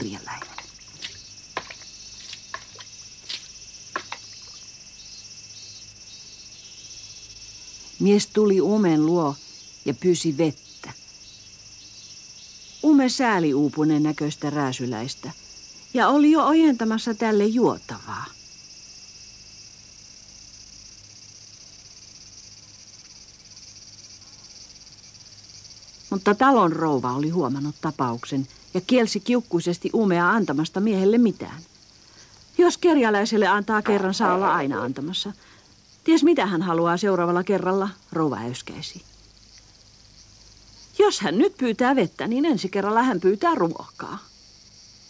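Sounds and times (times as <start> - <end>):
cicadas droning: 0.0 - 45.0
insects chirring: 0.0 - 45.0.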